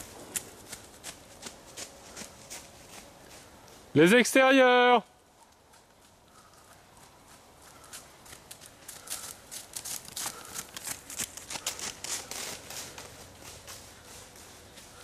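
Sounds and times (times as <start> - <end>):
footsteps on muddy path: 0.0 - 4.0, 5.3 - 15.0.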